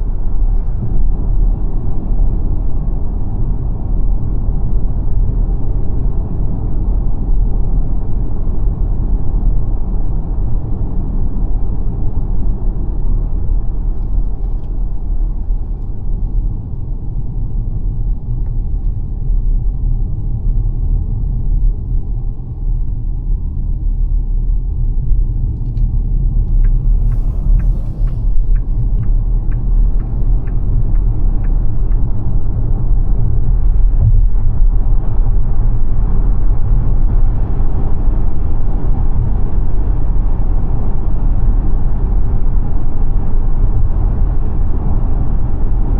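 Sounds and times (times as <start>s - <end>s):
road and tyre rumble: 0.0s - 45.9s.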